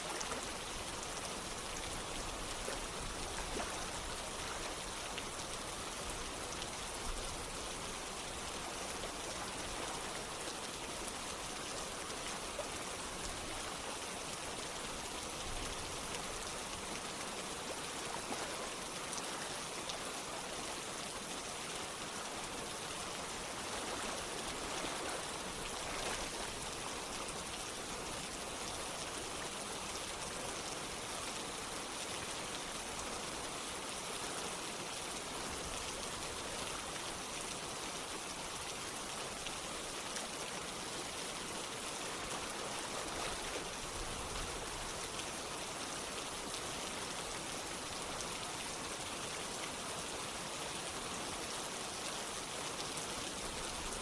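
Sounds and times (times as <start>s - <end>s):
running water: 0.0s - 54.0s
steady rain: 0.0s - 54.0s.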